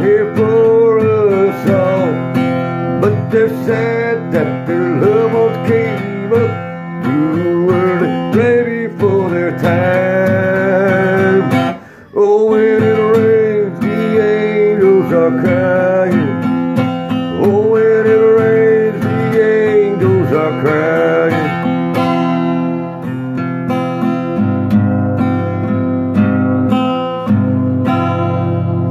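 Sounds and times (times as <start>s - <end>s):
strummed acoustic guitar: 0.0s - 28.9s.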